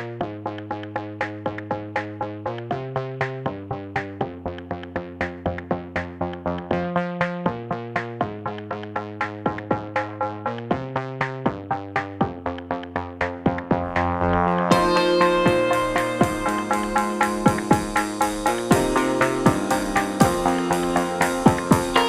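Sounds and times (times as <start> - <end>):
electronic music with plucked synth: 0.0 - 22.0.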